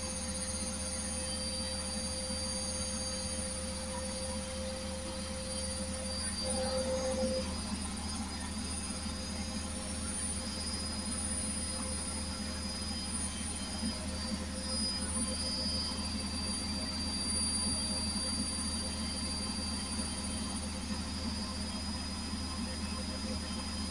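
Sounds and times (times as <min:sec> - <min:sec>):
washing machine humming and whining: 0:00.0 - 0:23.9.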